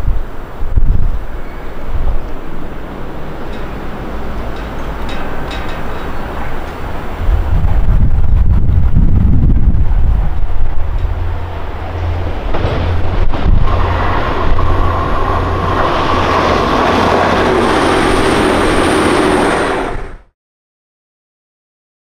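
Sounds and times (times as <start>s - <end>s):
thin high whine: 0.0s - 20.2s
wheel and rail noise: 0.0s - 20.2s
wind buffeting microphone: 0.0s - 20.3s
diesel train engine: 0.2s - 20.2s.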